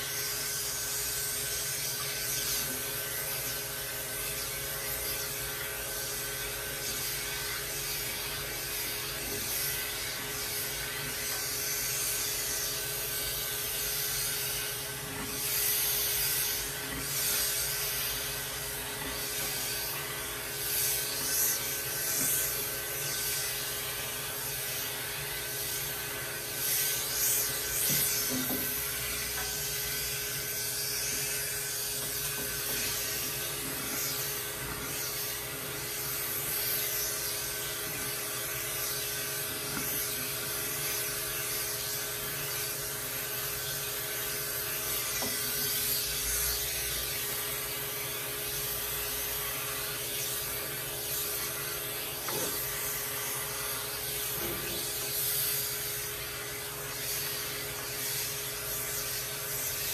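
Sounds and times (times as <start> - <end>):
electric clipper humming: 0.0 - 59.9.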